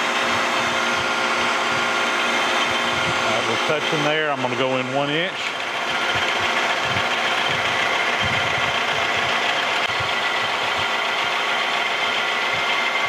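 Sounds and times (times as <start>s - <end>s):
high whine of metal cutting: 0.0s - 13.0s
milling machine running: 0.0s - 13.0s.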